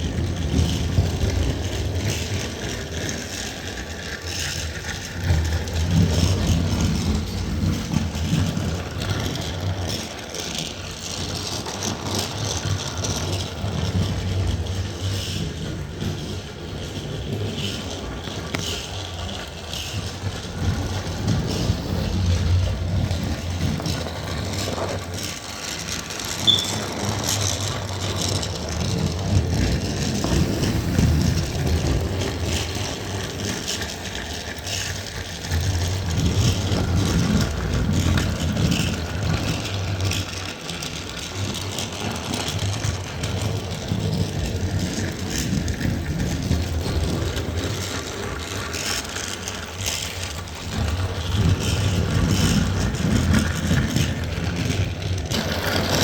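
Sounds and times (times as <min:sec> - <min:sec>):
toy train motor whirring: 0:00.0 - 0:56.0.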